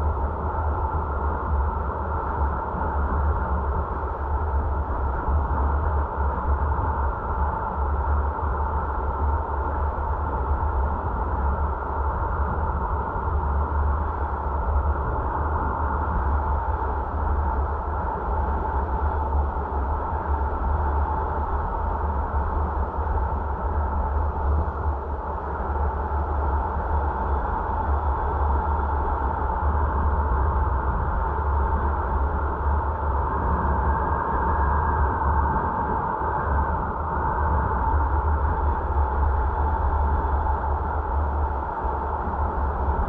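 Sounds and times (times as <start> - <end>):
constant hum: 0.0 - 43.0.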